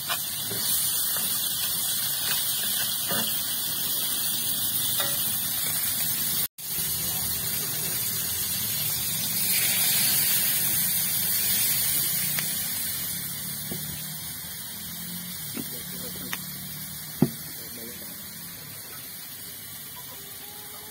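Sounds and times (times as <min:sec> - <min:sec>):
crabs sizzling in hot oil: 0:00.0 - 0:20.9
hiss of steam: 0:00.0 - 0:20.9.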